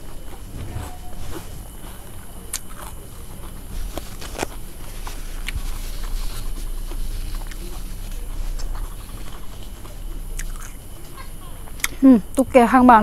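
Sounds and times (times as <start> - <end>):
steady low hum: 0.0 - 13.0
chewing crispy food: 1.6 - 12.4.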